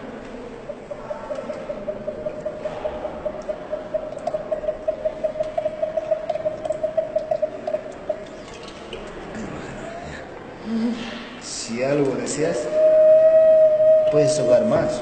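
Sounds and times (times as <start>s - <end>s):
warbling ceramic water whistle: 0.0s - 10.3s, 12.4s - 15.0s.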